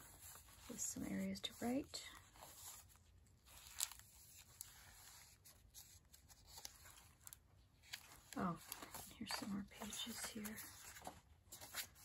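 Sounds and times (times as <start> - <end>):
paper pages turning: 0.0 - 12.0.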